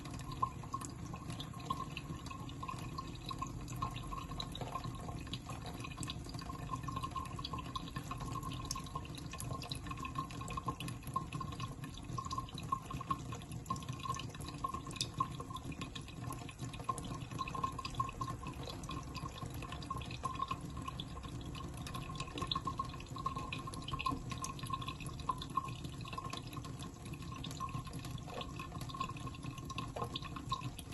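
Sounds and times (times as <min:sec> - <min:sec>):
water trickling from a tap: 0:00.0 - 0:30.9.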